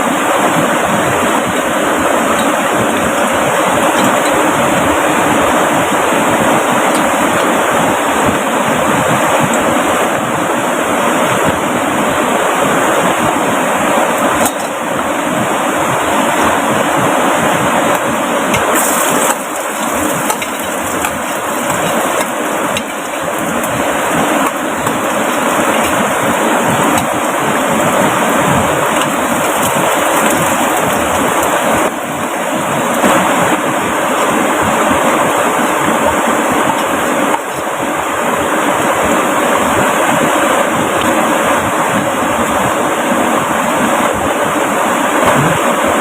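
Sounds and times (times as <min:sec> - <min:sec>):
heavy rain: 0:00.0 - 0:46.0
river flowing: 0:00.0 - 0:46.0.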